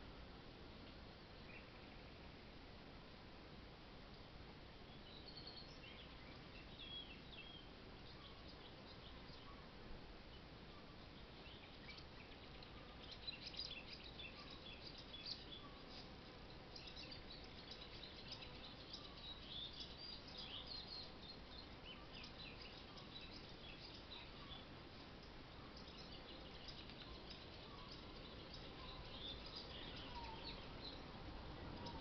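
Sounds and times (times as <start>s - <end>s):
steady background hiss: 0.0s - 32.0s
small birds chirping: 0.9s - 2.4s, 4.1s - 32.0s.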